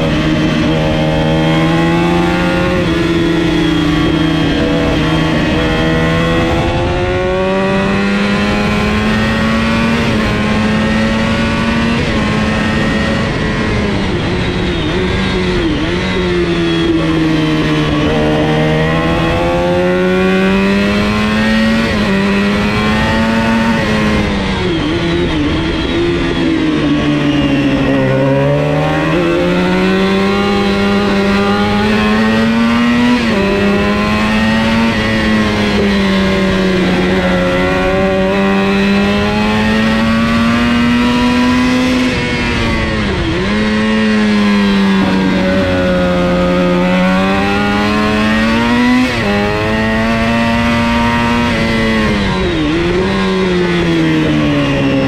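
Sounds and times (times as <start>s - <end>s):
racing motorcycle engine at high revs: 0.0s - 55.0s.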